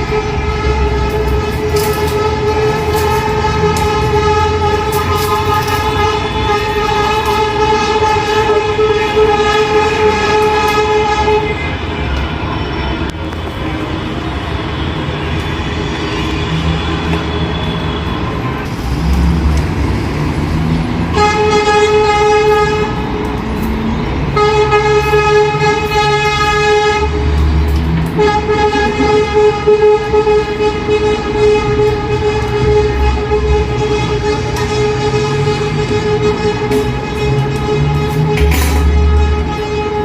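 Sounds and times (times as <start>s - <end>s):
loud horn blasts: 0.0s - 19.5s, 20.6s - 40.0s
heavy traffic rumble: 0.0s - 40.0s.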